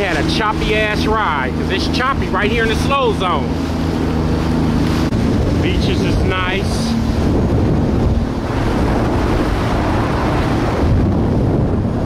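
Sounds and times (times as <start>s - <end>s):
choppy water rushing: 0.0s - 12.0s
jet ski engine rumble: 0.0s - 12.0s
wind buffeting microphone: 0.0s - 12.0s.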